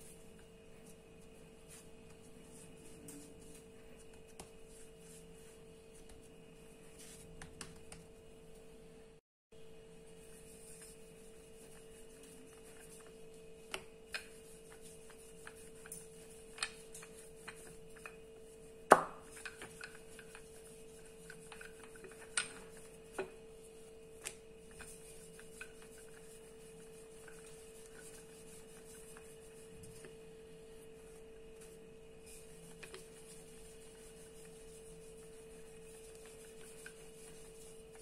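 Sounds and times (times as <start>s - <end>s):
rolling pin rolling dough: 0.0s - 9.0s, 9.8s - 38.0s.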